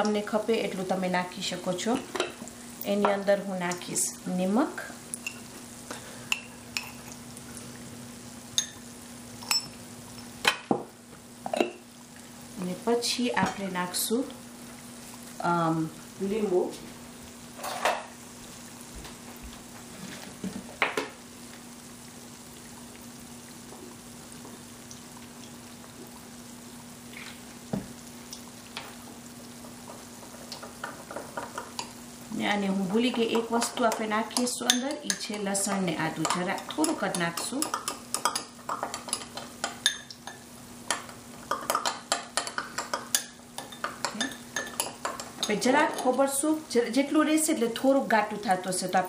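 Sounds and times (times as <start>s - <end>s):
food frying in hot oil: 0.0s - 49.0s.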